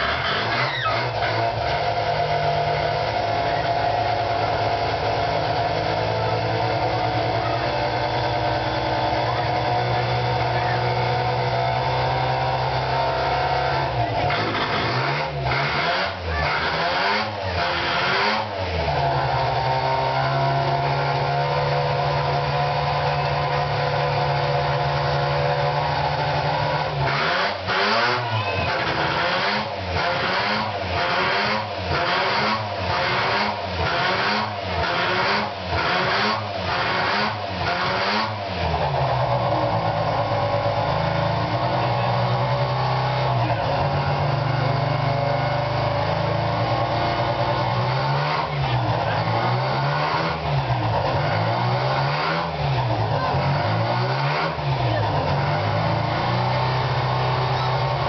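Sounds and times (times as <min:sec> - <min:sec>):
rotary engine idling and revving: 0:00.0 - 0:58.0.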